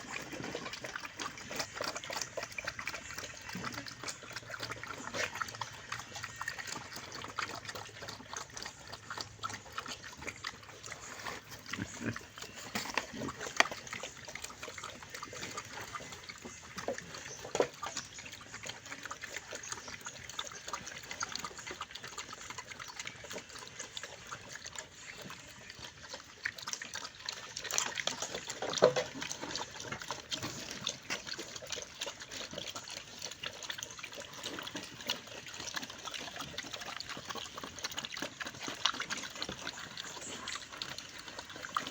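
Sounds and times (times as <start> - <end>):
pigs chewing and smacking: 0.0 - 41.9.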